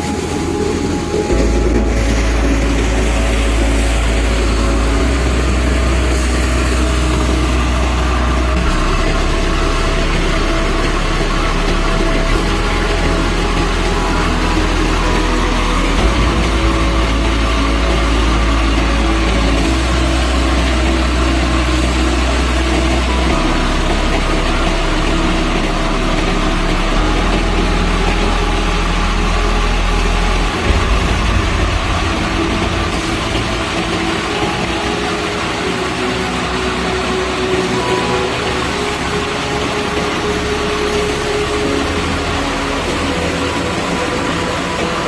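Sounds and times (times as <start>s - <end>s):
threshing machine running: 0.0s - 45.0s
tractor engine: 0.0s - 45.0s.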